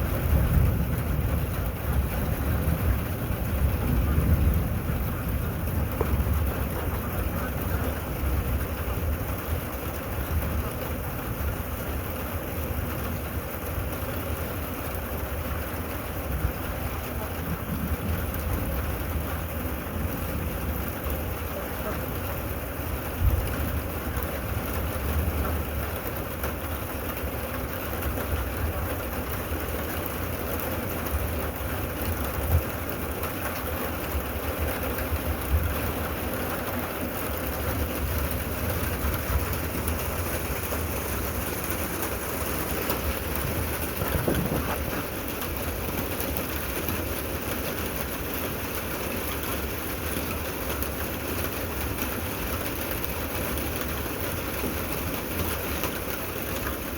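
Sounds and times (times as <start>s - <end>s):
steady rain falling: 0.0s - 56.9s
raindrop taps: 0.1s - 11.6s, 13.8s - 56.9s.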